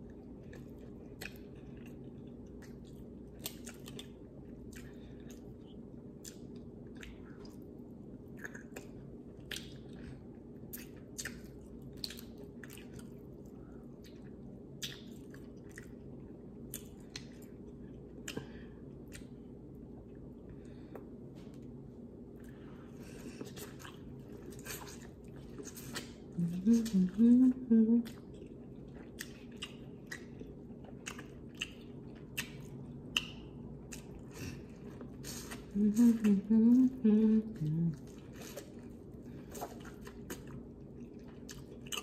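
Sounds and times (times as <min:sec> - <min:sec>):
chewing and lip smacks: 0:00.0 - 0:21.7, 0:22.3 - 0:27.2, 0:28.0 - 0:36.4, 0:37.5 - 0:42.0
low steady hum: 0:00.0 - 0:42.0.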